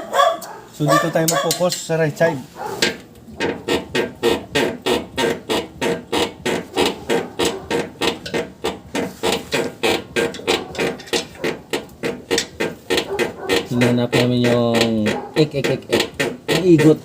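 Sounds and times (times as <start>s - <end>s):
truck suspension squeaking: 0.0s - 17.0s.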